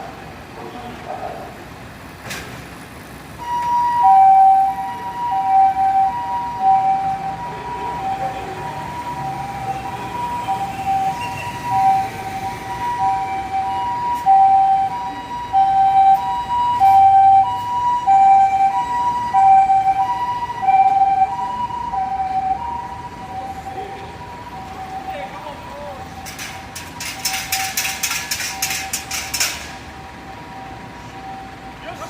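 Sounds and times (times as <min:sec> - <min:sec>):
two-tone hi-lo siren: 0:03.4 - 0:32.0.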